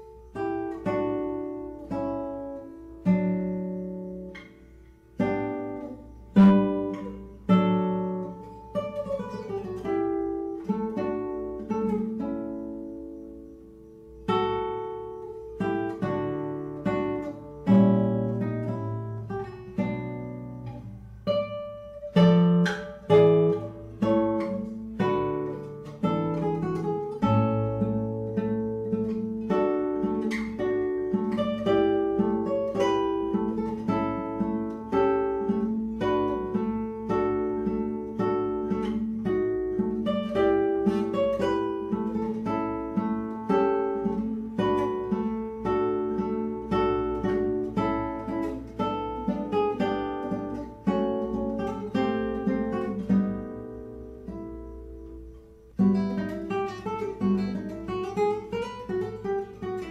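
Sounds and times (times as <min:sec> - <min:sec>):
acoustic guitar plucked notes: 0:00.0 - 0:59.9.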